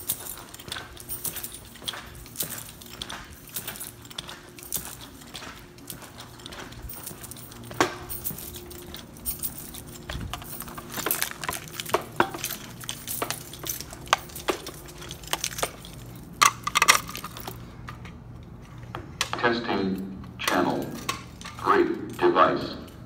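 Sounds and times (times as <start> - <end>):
metallic clinking and jingling: 0.0 - 18.6, 19.9 - 23.0
footsteps on tile floor: 0.0 - 19.4
steady low hum: 0.0 - 23.0.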